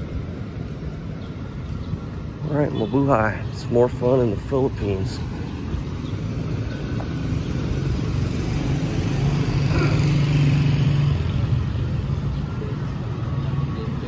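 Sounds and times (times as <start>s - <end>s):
vehicle engine hum passing: 0.0s - 14.0s.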